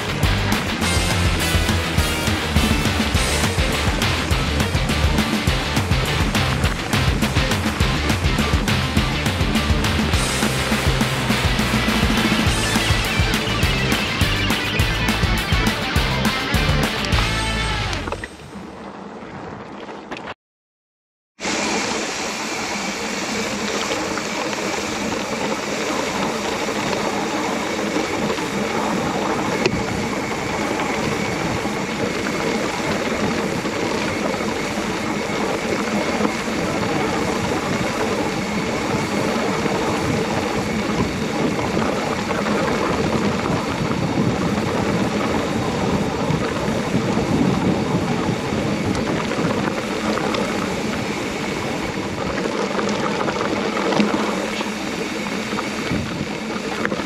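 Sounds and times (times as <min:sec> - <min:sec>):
bike tyres rushing on track: 0:00.0 - 0:20.3, 0:21.4 - 0:57.0.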